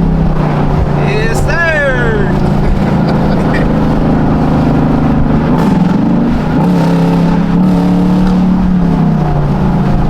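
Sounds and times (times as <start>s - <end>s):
car engine running loudly: 0.0s - 10.0s.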